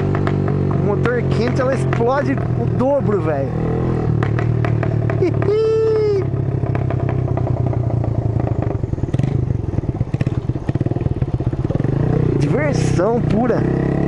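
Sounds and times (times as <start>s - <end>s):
exhaust popping and crackling: 0.0s - 13.6s
motorcycle engine running: 0.0s - 14.0s.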